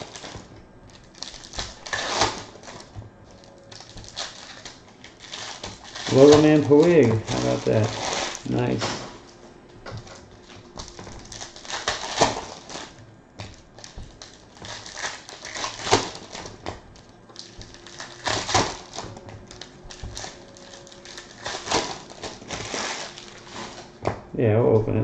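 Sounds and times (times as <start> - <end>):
foil packs crinkling: 0.0 - 9.3, 10.0 - 24.0.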